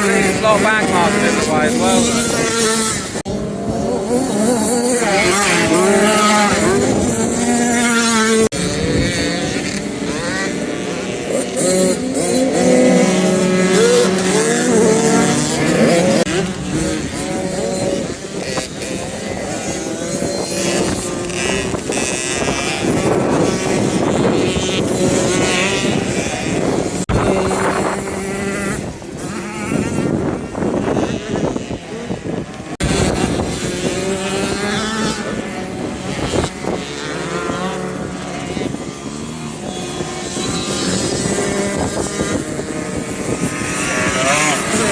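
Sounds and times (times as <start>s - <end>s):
motocross bikes revving: 0.0s - 44.9s.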